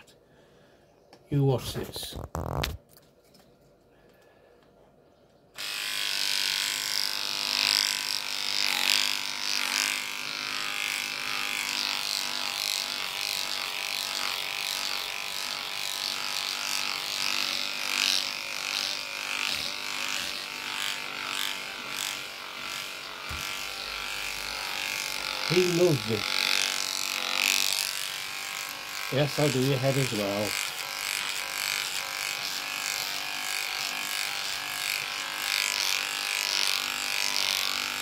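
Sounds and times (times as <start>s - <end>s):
hair clipper buzzing: 2.2s - 2.8s, 5.6s - 38.0s.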